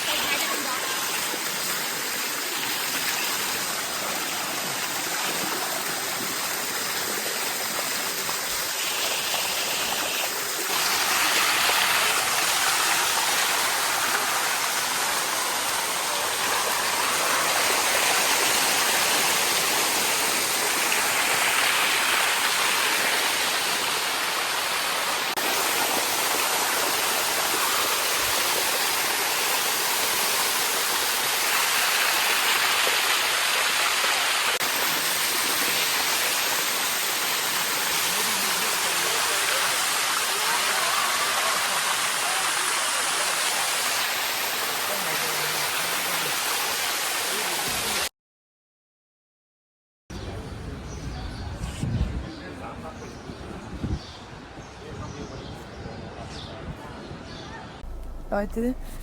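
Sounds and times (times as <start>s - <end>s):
waterfall rushing: 0.0s - 48.1s, 57.8s - 59.0s.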